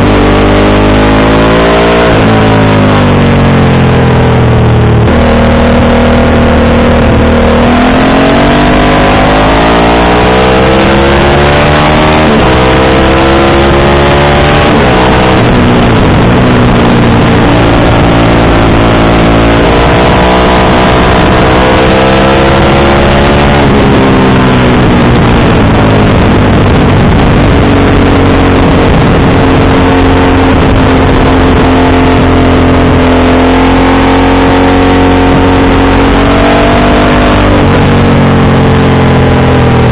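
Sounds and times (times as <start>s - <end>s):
loud wind noise: 0.0s - 39.9s
motorcycle engine accelerating: 0.0s - 39.9s.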